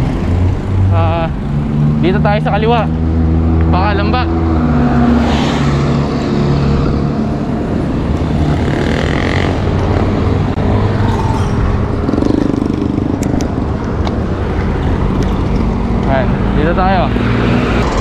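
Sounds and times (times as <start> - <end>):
highway traffic engines: 0.0 - 18.0.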